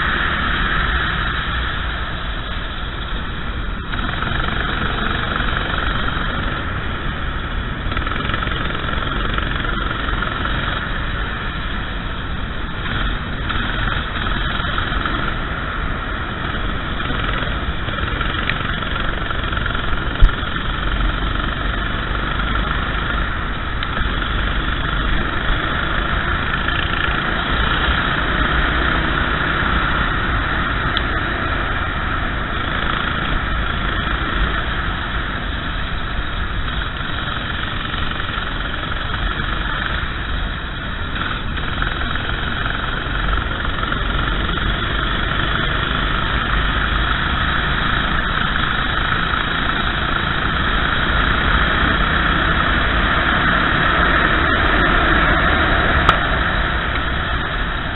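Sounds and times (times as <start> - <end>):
kart engine running: 0.0 - 57.9.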